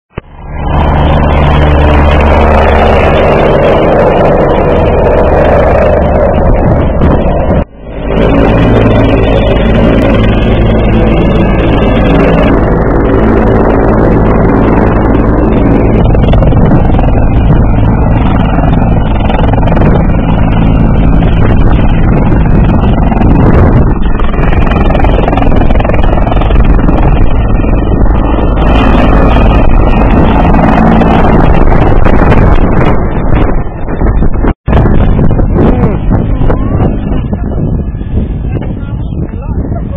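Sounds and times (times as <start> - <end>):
helicopter engine and rotor noise: 0.1 - 39.9.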